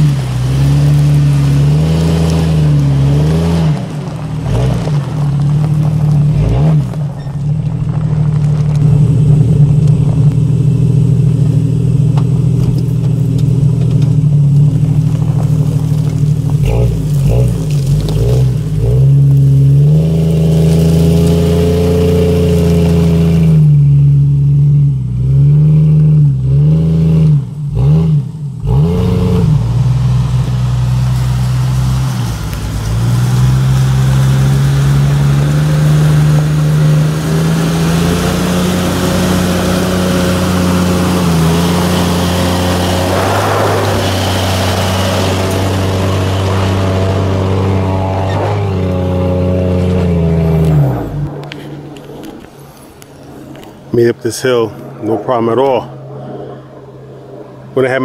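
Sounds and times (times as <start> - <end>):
engine revving under load: 0.0 - 58.0.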